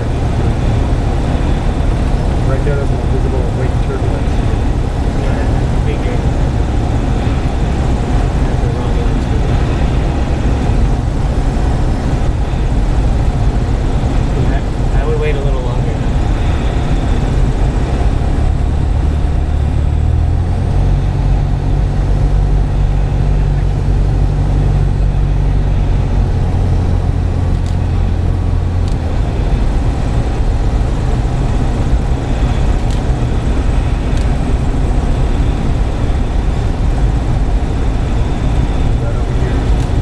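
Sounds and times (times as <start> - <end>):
aircraft engine drone: 0.0 - 40.0
wind noise: 0.0 - 40.0.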